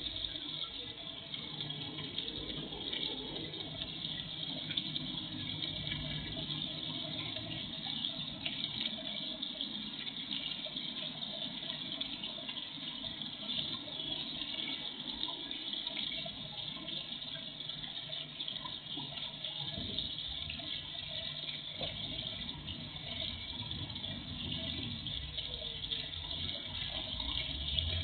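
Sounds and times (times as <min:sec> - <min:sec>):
pond fountain splashing: 0:00.0 - 0:28.0.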